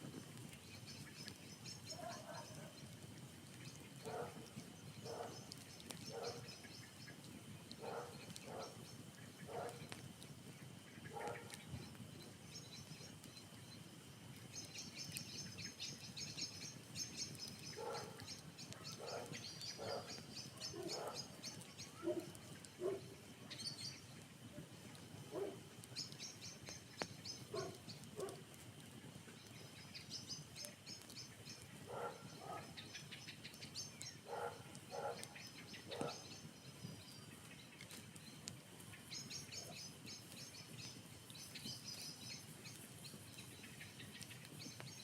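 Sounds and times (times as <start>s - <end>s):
birds chirping: 0.3s - 45.0s.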